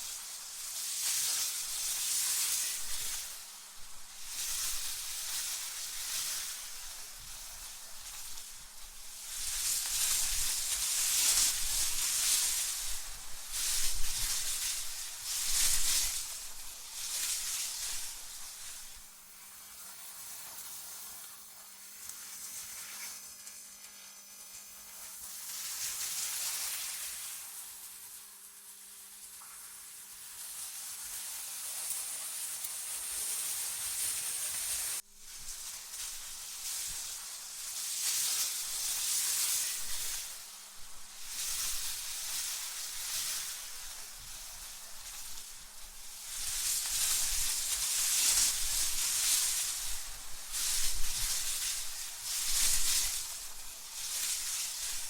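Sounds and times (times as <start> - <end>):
synthetic wind hiss: 0.0 - 23.2, 24.2 - 55.0.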